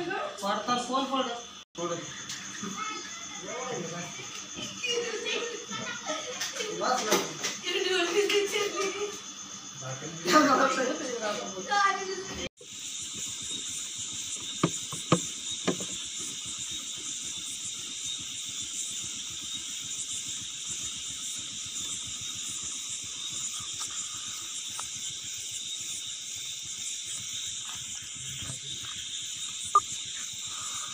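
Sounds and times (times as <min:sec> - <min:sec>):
night insects chorus: 0:00.0 - 0:30.9.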